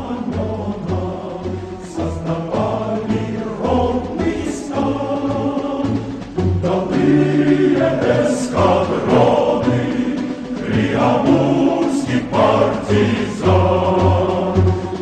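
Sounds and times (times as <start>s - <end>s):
choir singing: 0.0s - 15.0s
instrumental accompaniment: 0.0s - 15.0s
low pulsing beat: 0.0s - 15.0s.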